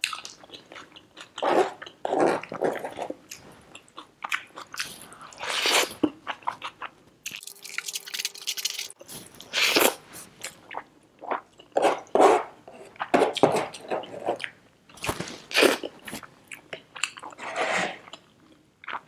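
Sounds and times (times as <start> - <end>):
person chewing food: 0.0 - 17.4, 18.0 - 19.0.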